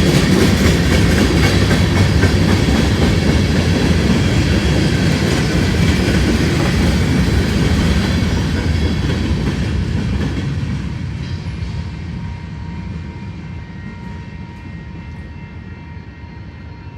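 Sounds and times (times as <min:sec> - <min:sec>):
train wheels on rail: 0:00.0 - 0:16.9.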